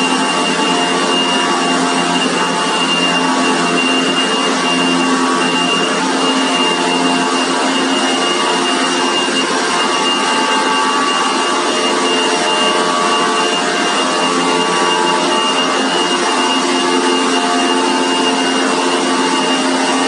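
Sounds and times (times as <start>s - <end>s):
machine running with high whine: 0.0s - 20.0s.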